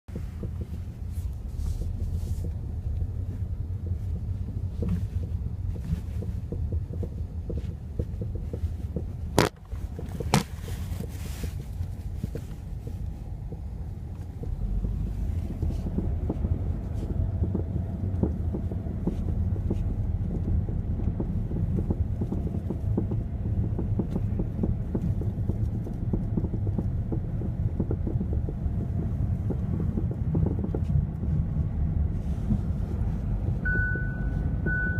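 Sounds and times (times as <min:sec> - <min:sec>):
engine knocking: 0:00.1 - 0:11.2, 0:12.2 - 0:32.9.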